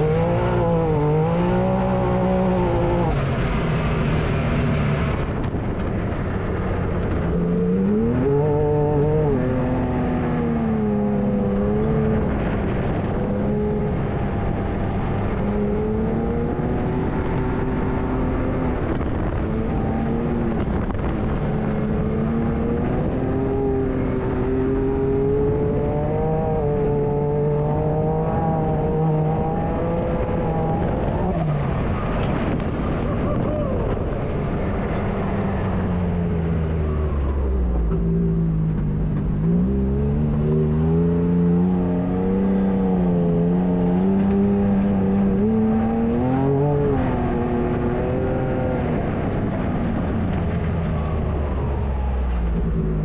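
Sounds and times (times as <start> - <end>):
engine revving: 0.0 - 5.5, 6.9 - 53.0.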